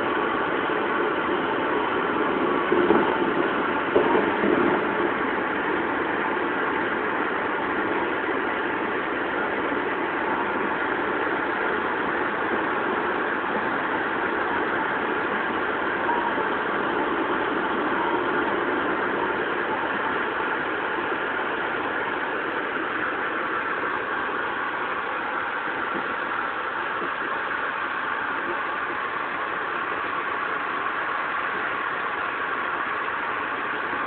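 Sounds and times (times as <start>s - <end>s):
train running noise: 0.0s - 34.0s.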